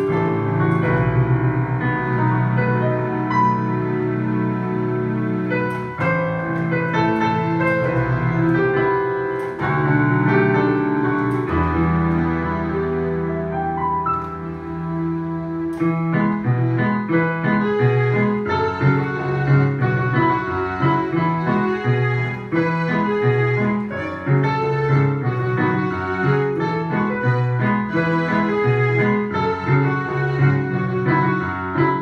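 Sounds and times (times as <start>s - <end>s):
low piano accompaniment: 0.0s - 32.0s
piano melody: 0.0s - 32.0s.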